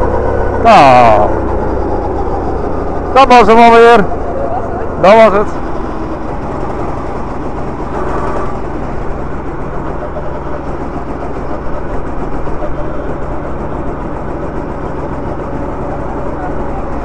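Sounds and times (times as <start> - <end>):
go-kart engine running: 0.0 - 17.0.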